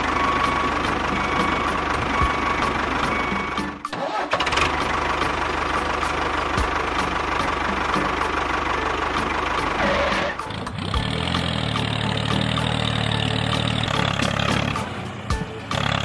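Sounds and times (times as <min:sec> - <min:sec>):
engine running with low pulse: 0:00.0 - 0:16.0.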